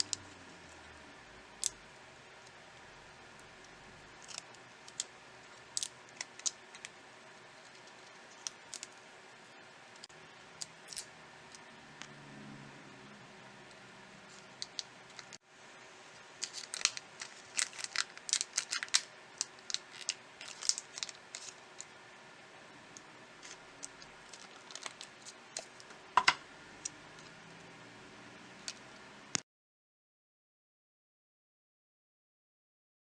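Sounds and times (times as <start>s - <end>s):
faint steady hum: 0.0s - 29.4s.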